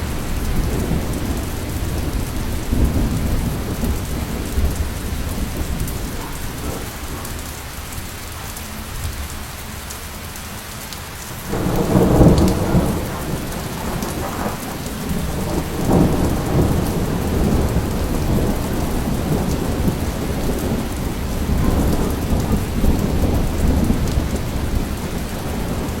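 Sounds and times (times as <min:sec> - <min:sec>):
rolling thunder: 0:00.0 - 0:09.2, 0:11.4 - 0:26.0
steady rain: 0:00.0 - 0:26.0.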